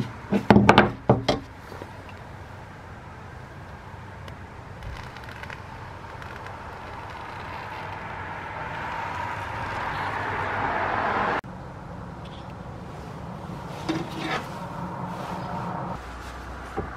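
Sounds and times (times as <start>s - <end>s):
steady rushing noise: 2.0s - 16.9s.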